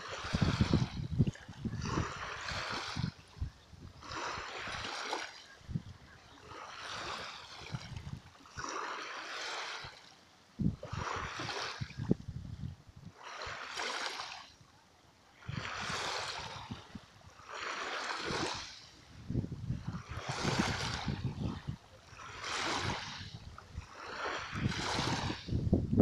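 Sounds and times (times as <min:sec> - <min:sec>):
wind buffeting microphone: 0:00.0 - 0:08.4, 0:10.6 - 0:13.2, 0:15.4 - 0:17.5, 0:18.2 - 0:26.0
small waves lapping: 0:00.0 - 0:25.7.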